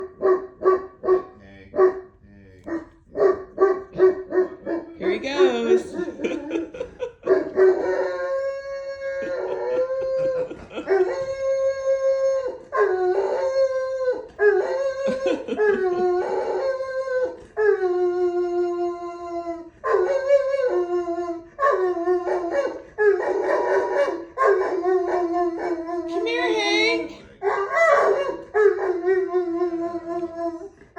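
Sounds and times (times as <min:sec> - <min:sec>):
dog howling: 0:02.7 - 0:30.9.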